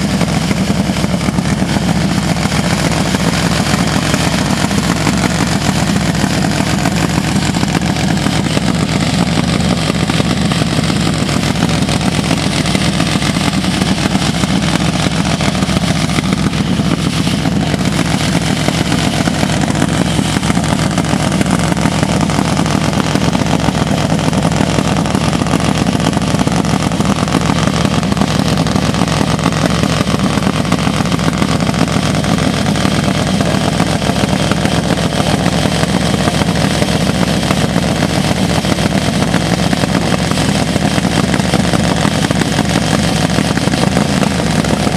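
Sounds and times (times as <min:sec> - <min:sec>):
motorcycle engine running steadily: 0:00.0 - 0:44.9.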